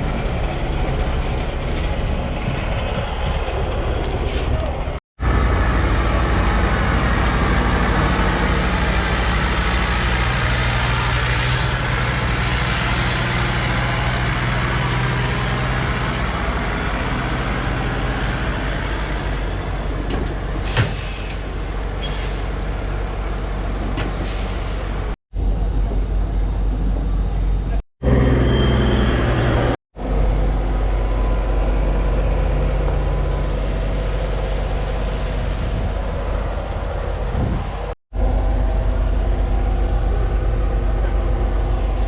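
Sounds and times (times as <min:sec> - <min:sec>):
semi truck engine running: 0:00.0 - 0:42.0.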